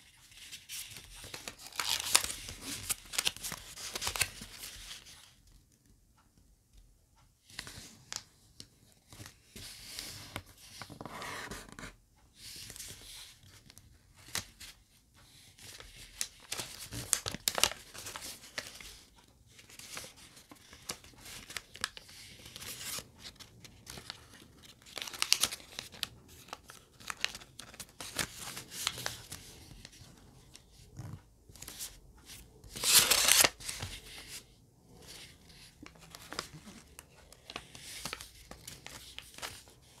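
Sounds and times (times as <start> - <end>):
paper rustling and crinkling: 0.2 - 5.3, 12.4 - 40.0.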